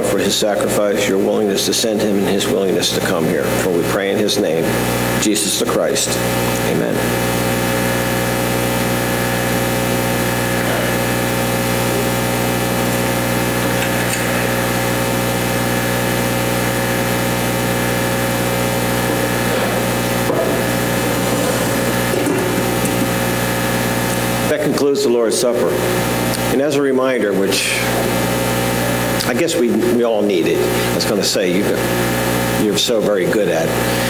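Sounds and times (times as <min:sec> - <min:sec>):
buzzy electrical hum: 0:00.0 - 0:34.0.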